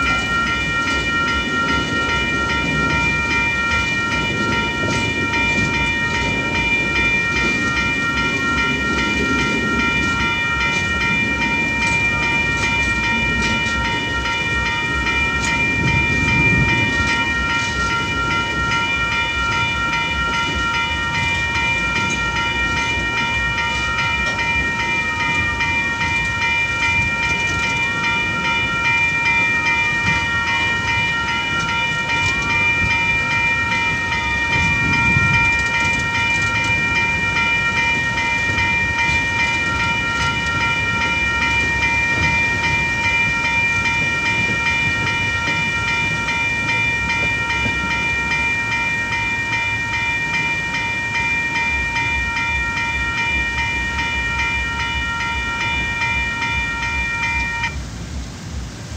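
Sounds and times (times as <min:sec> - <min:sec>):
crossing warning bells ringing: 0:00.0 - 0:58.9
freight train wagons rumbling: 0:00.0 - 0:58.9.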